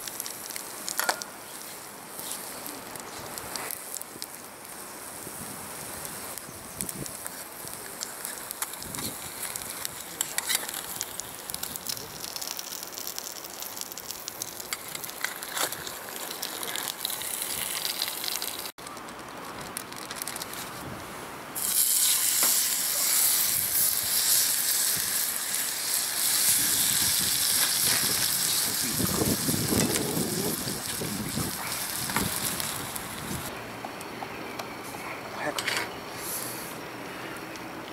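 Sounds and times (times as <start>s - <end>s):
patties sizzling in a frying pan: 0.0s - 18.8s, 21.6s - 33.5s
crackly hiss of fire: 0.0s - 37.9s.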